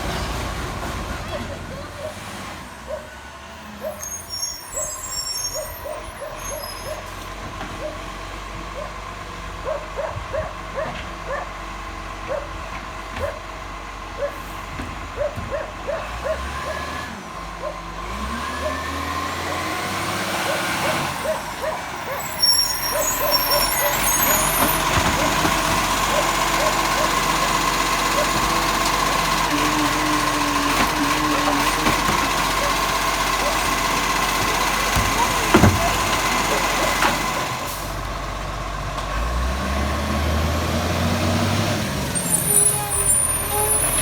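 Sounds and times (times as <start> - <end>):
garbage truck engine revving: 0.0 - 44.0.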